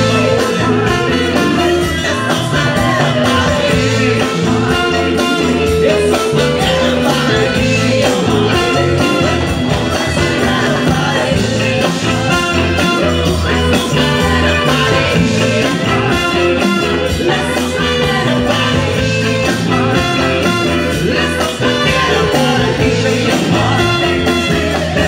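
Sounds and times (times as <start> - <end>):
congas: 0.0 - 25.0
lead vocals singing: 0.0 - 25.0
live band playing amplified song: 0.0 - 25.0.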